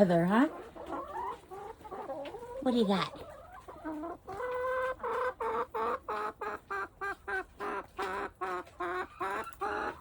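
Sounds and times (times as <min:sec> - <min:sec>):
chicken clucking: 0:00.0 - 0:10.0.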